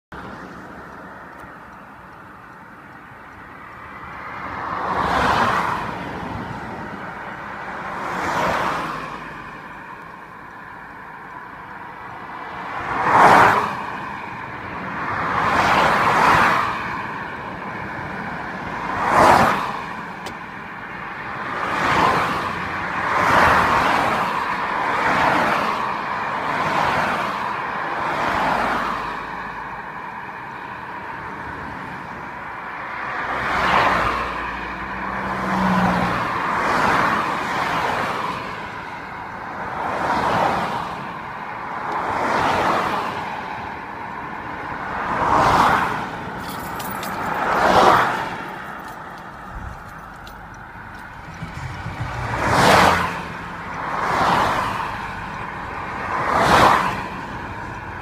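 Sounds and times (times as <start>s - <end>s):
vehicles passing on motorway: 0.0s - 58.0s
low road hum: 0.1s - 58.0s.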